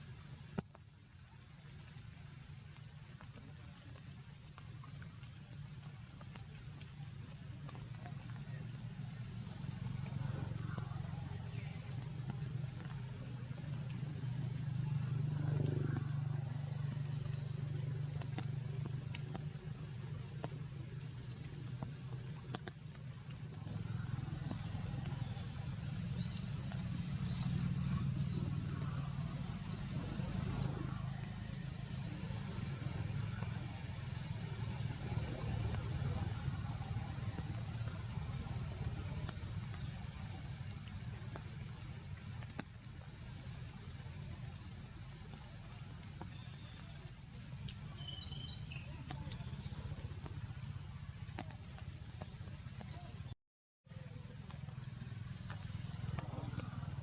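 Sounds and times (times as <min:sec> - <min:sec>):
low motor hum: 0:00.0 - 0:57.0
steady rain falling: 0:00.0 - 0:57.0.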